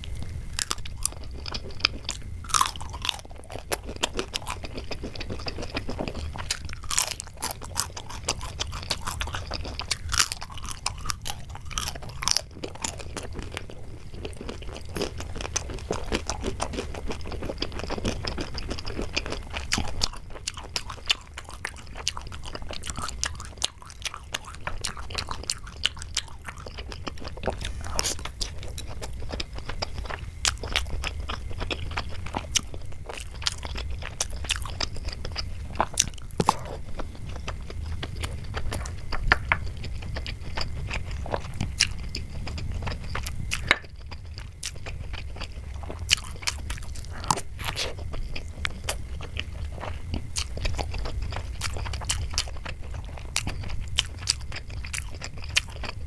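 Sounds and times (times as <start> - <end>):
chewing and crunching: 0.0 - 56.0
steady low hum: 0.0 - 56.0.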